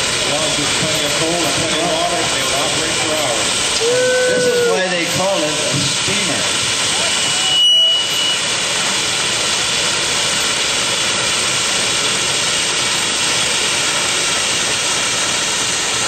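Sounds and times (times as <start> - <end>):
steam fire engine pumping: 0.0 - 16.0
steam venting hiss: 0.0 - 16.0.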